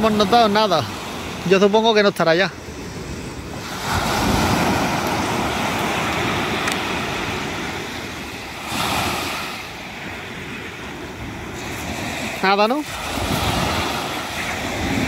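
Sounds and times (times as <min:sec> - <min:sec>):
waves washing up stony beach: 0:00.0 - 0:15.0.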